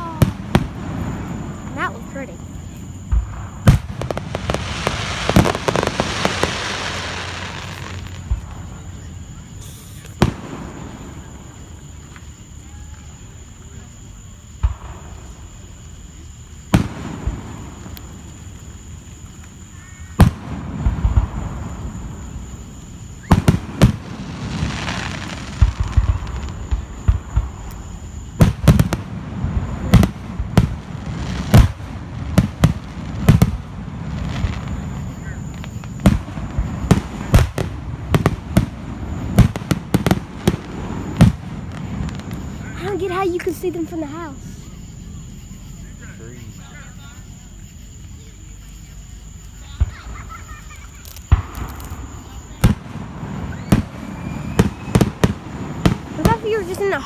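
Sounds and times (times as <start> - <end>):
firework bangs: 0.0 - 46.4, 49.2 - 57.0.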